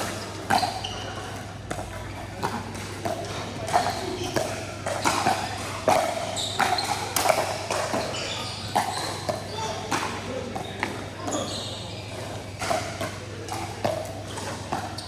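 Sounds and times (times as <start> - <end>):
murmur of voices: 0.0 - 15.0
paddles hitting plastic ball: 0.4 - 11.4, 12.1 - 15.0.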